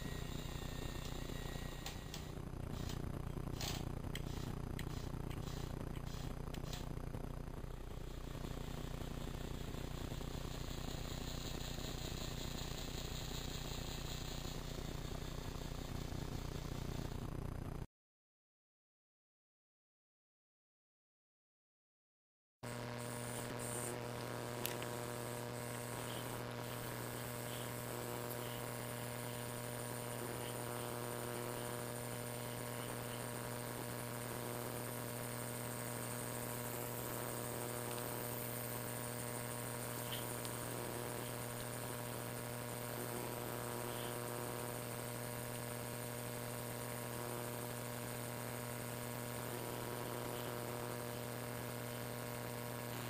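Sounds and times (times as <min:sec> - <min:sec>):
electrical hum: 0:00.0 - 0:17.9, 0:22.7 - 0:53.0.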